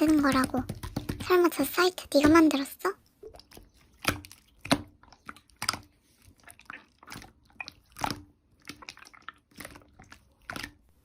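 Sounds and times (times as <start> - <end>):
slime squishing: 0.0 - 11.0.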